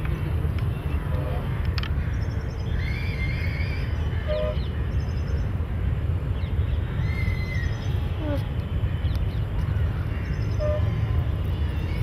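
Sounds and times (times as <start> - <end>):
bird calls: 0.0 - 5.6, 6.4 - 12.0
steady low rumble: 0.0 - 12.0.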